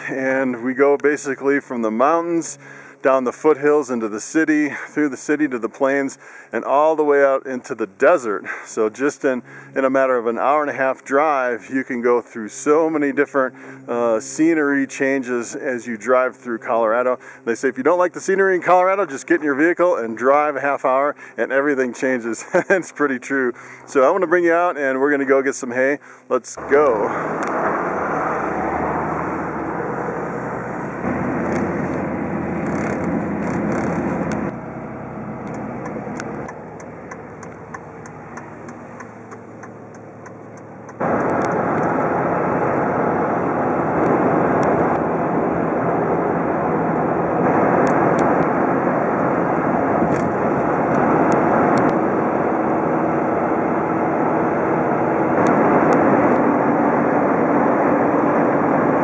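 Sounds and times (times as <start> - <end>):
engine and tyre noise in cab: 0.0 - 22.7, 26.6 - 59.0.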